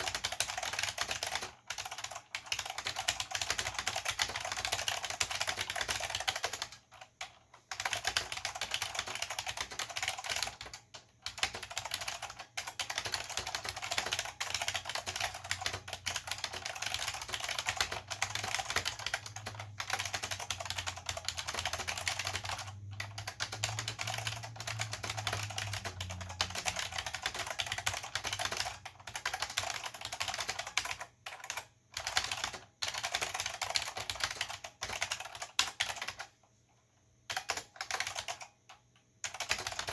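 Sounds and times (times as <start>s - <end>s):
fast typing on clicky keyboard: 0.0s - 36.4s, 37.2s - 39.9s.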